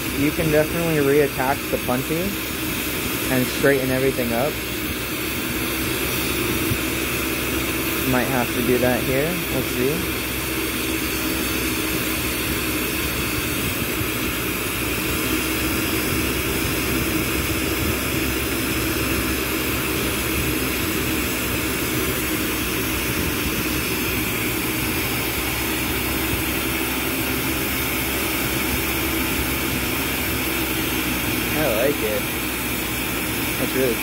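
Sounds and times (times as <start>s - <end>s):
fan running: 0.0s - 34.0s
torch flame rushing: 0.0s - 34.0s.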